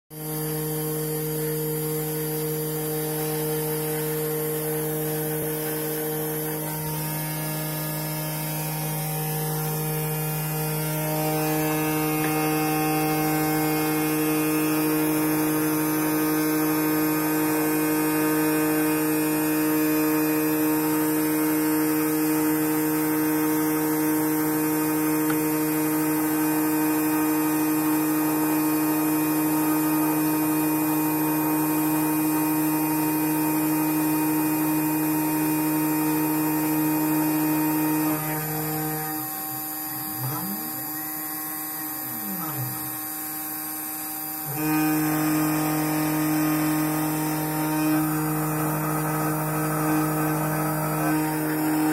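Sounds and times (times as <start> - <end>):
spindle motor humming: 0.1 - 51.9
stepper motors whining: 0.2 - 51.9.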